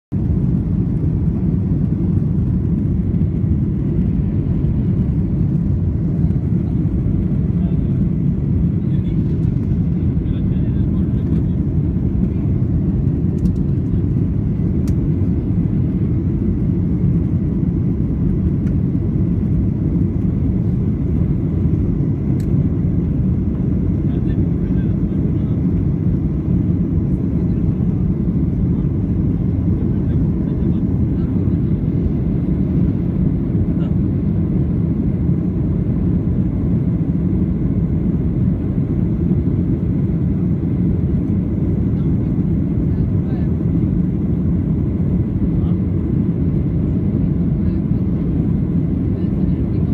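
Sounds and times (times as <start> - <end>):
airliner cabin rumble: 0.1 - 49.9.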